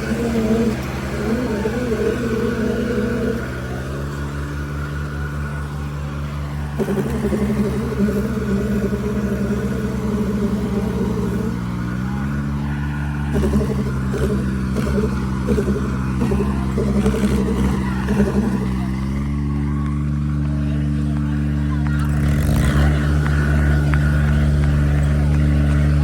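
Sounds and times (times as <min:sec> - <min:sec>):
diesel tractor engines straining: 0:00.0 - 0:26.0.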